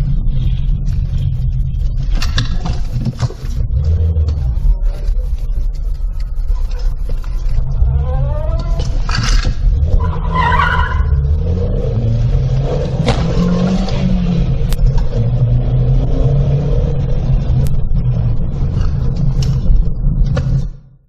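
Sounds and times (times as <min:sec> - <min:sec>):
car engine running: 0:00.0 - 0:21.0
road rumble: 0:00.0 - 0:21.0.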